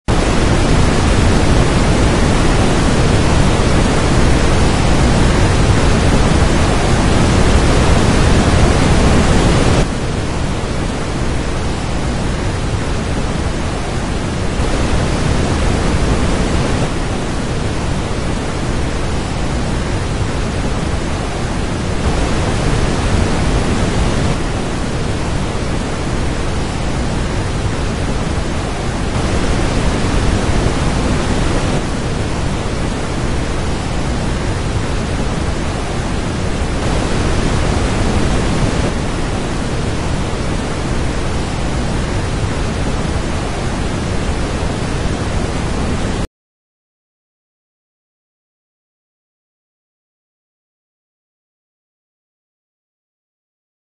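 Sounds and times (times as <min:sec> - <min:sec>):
waterfall rushing: 0:00.1 - 0:46.2.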